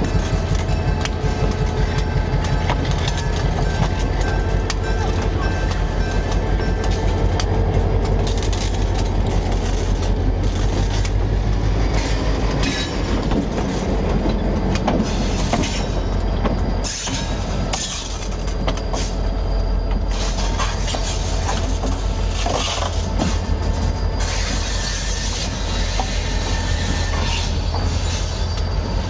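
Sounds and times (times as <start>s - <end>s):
locomotive engine droning: 0.0s - 29.0s
wheels clicking over rail joints: 0.0s - 29.0s.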